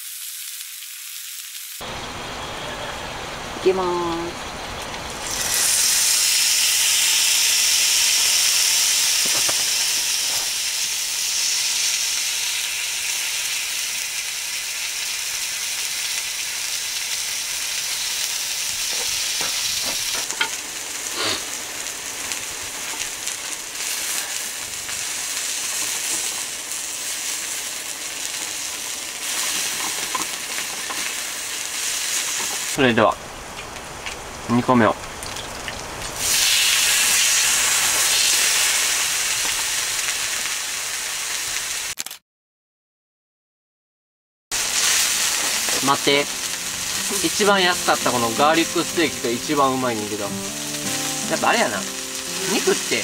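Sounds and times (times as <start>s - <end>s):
steak sizzling on grill plate: 0.0s - 1.8s, 5.2s - 32.8s, 35.9s - 41.9s, 44.5s - 53.0s.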